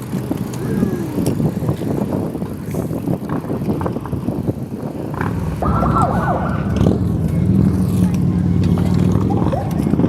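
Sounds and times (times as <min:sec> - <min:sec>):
bicycle road noise rattling: 0:00.0 - 0:10.0
wind buffeting microphone: 0:00.0 - 0:10.0.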